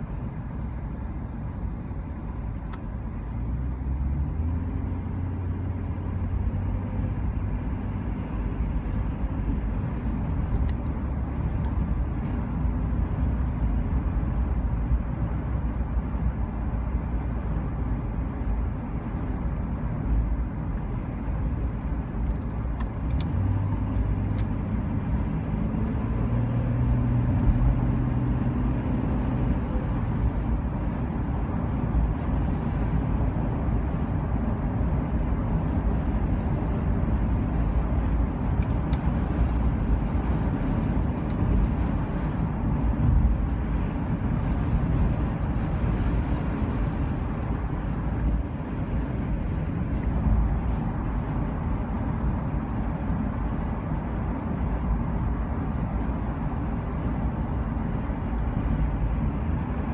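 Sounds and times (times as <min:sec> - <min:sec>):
road noise: 0:00.0 - 0:59.9
vehicle engine rumbling: 0:00.0 - 0:59.9.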